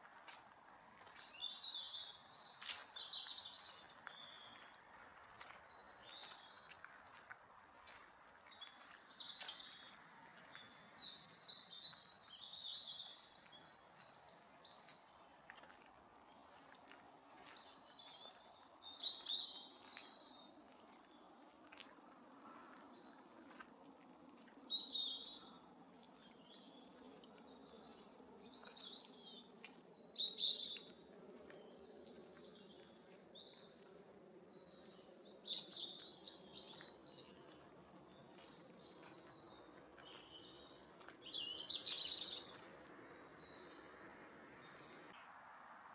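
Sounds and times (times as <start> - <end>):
songbirds singing: 0.0 - 45.2
faint outdoor background: 0.0 - 45.9.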